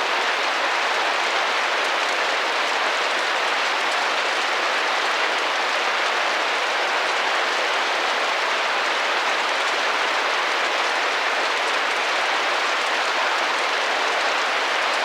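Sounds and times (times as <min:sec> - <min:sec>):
rain drumming on window: 0:00.0 - 0:15.0.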